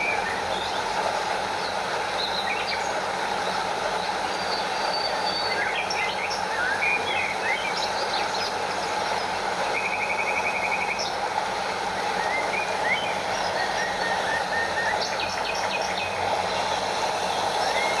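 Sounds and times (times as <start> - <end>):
stream and waterfall flowing: 0.0 - 18.0.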